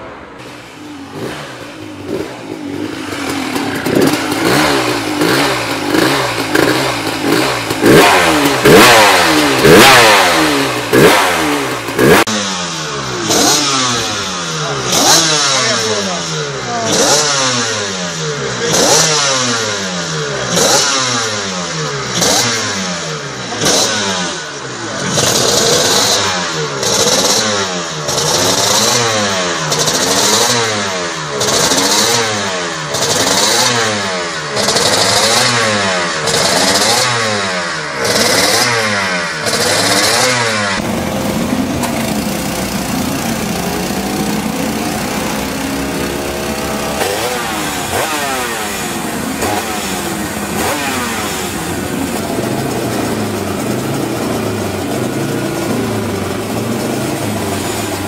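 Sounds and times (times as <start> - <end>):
two-stroke motorcycle engine revving: 0.0 - 58.0
racing engine revved in blips: 1.0 - 56.9.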